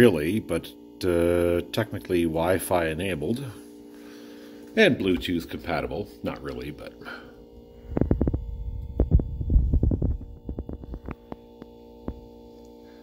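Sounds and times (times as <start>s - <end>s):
compressor humming: 0.0s - 13.0s.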